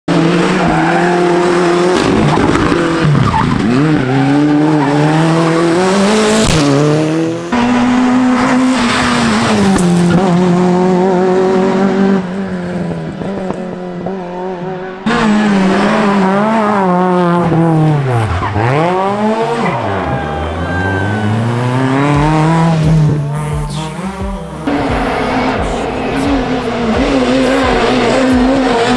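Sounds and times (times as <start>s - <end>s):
rally car engines revving: 0.0s - 28.9s.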